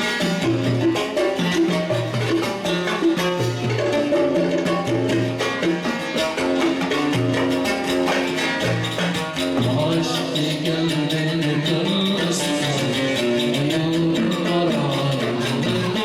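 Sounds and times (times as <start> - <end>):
plucked string melody: 0.0 - 16.0
rhythmic percussion beat: 0.0 - 16.0.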